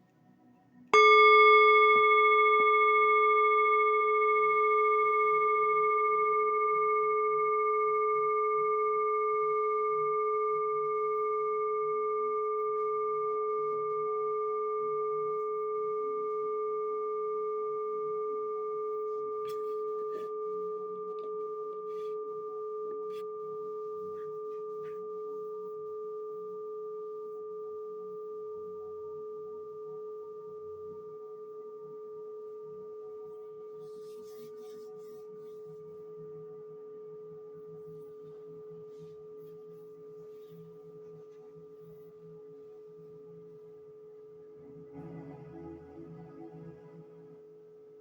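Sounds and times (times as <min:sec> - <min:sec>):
singing bowl ringing: 0:00.9 - 0:48.0.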